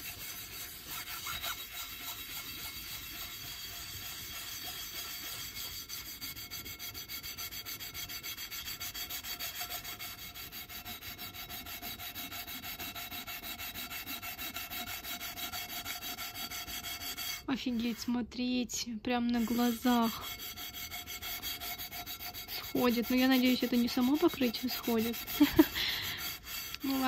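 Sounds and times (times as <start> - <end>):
scrubbing a frying pan: 0.0 - 18.3, 19.2 - 27.0.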